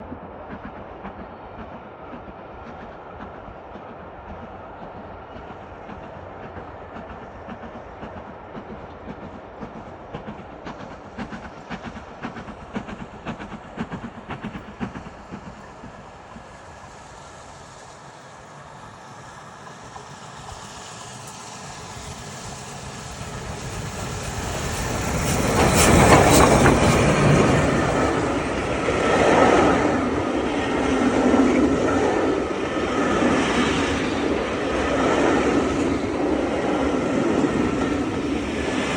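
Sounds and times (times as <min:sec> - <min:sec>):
steam train passing: 0:00.0 - 0:38.9
carriages running over rails: 0:03.9 - 0:38.9.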